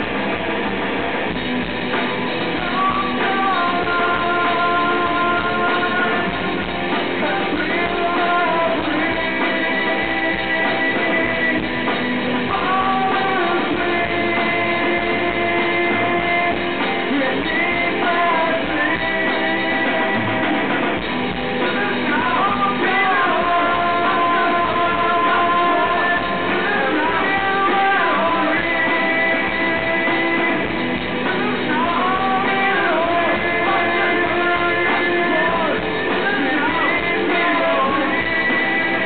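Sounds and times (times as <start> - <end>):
bass guitar: 0.0 - 39.0
drums: 0.0 - 39.0
electric guitars: 0.0 - 39.0.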